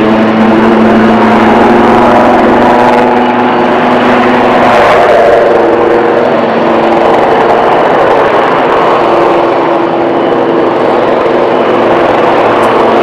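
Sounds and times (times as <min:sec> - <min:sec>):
constant engine whine: 0:00.0 - 0:13.0
helicopter hovering: 0:00.0 - 0:13.0.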